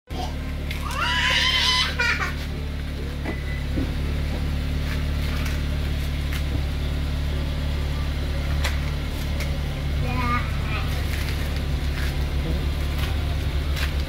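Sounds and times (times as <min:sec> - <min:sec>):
car engine idling: 0:00.2 - 0:14.0.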